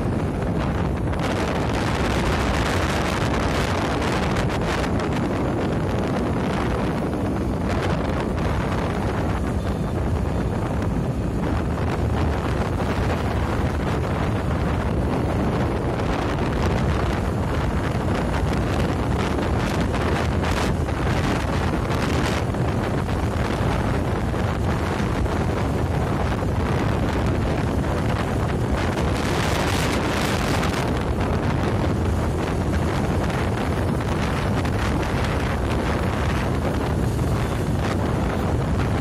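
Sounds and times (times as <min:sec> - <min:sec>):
road and vehicle noise: 0:00.0 - 0:39.0
wind buffeting microphone: 0:00.0 - 0:39.0.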